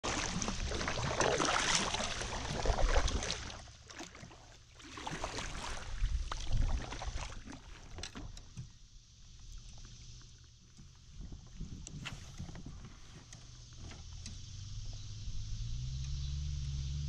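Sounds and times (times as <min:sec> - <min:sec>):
kayak paddle splashing in water: 0:00.0 - 0:16.0.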